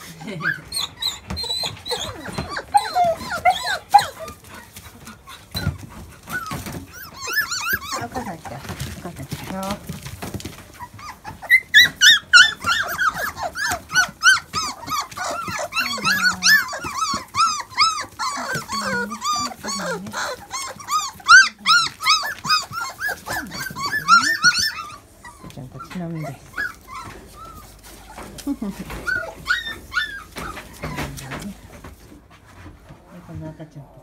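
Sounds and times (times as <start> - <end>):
puppies whining and squealing: 0.0 - 32.3
low puppy calls: 0.2 - 9.0, 9.8 - 31.8.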